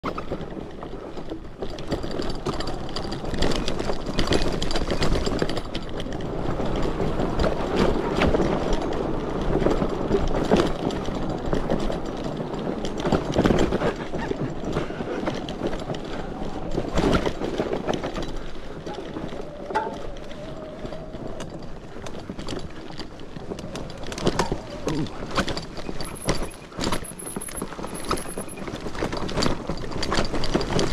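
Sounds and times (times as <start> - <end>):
bike rattling and knocking: 0.0 - 30.9
tyres rumbling over dirt: 0.1 - 30.9.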